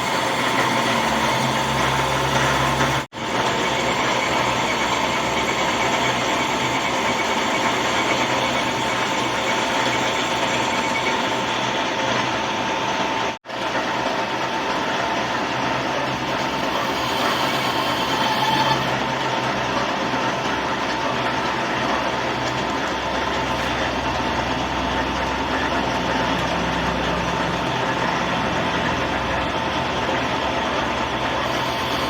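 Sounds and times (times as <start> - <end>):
electric machine whining: 0.0 - 13.4, 15.2 - 32.0.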